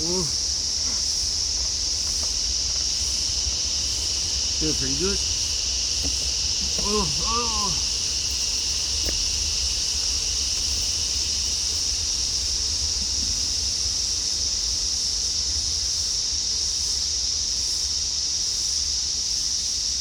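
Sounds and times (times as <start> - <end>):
high-pitched insect drone: 0.0 - 19.9.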